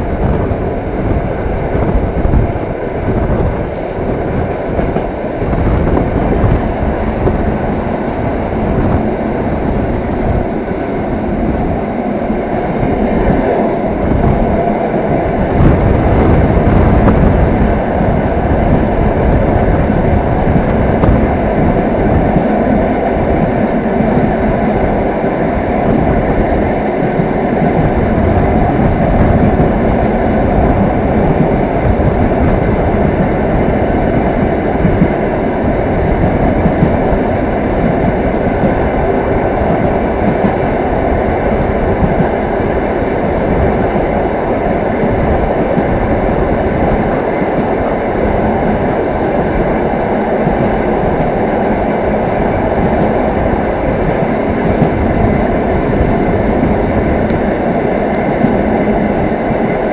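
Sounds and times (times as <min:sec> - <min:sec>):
train wheels rolling on rails: 0:00.0 - 0:59.9.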